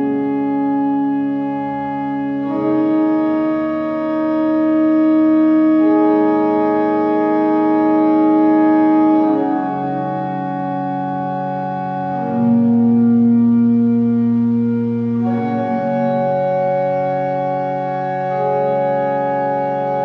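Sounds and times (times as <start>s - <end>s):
slow sustained chords: 0.0s - 20.0s.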